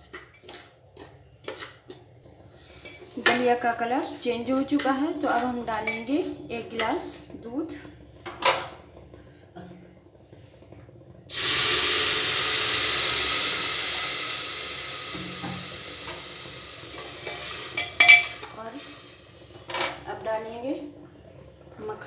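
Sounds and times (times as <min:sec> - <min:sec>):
milk sizzling in hot pot: 0:00.0 - 0:03.4, 0:04.2 - 0:22.0.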